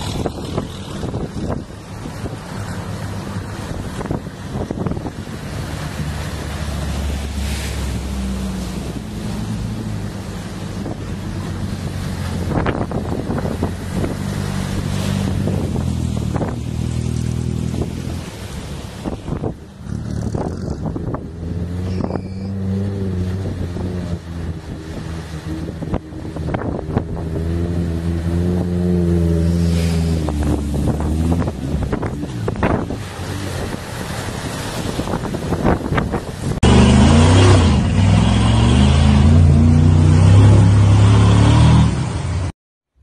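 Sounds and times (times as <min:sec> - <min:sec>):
wind buffeting microphone: 0:00.0 - 0:38.6
engines revving under load: 0:00.0 - 0:42.5
water surging and splashing: 0:00.0 - 0:43.0.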